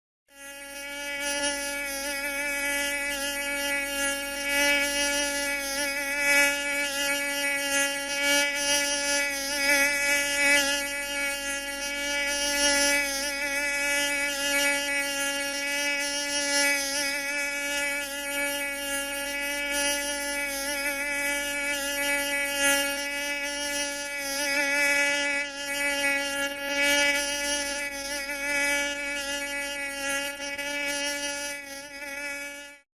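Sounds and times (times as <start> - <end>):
mosquito buzzing: 0.3 - 32.9.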